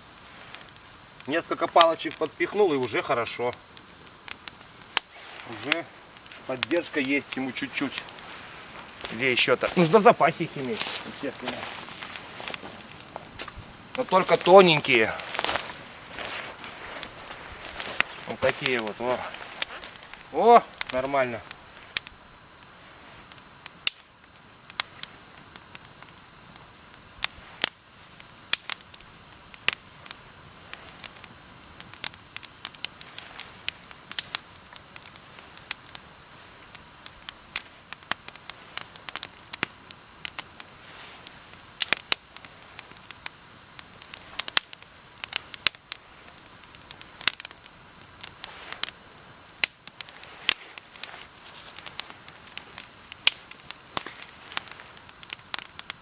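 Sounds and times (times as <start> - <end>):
campfire kindling crackling: 0.0 - 56.0
sharp pops of burning kindling: 0.0 - 56.0.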